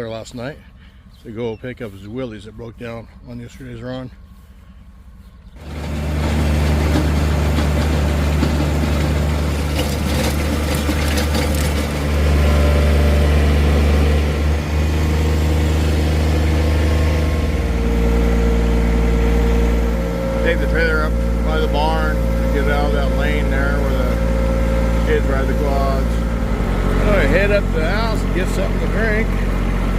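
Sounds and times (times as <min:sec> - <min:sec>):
engine running with deep hum: 0:00.0 - 0:29.9.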